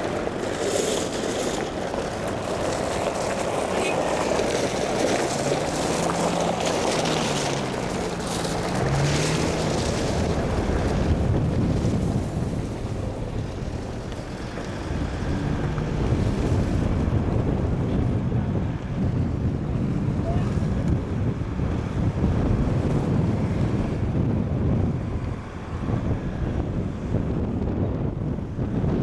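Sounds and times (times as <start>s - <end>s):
tires on gravel: 0.0s - 29.0s
vehicle engine rumbling: 0.0s - 29.0s
wind buffeting microphone: 0.0s - 29.0s.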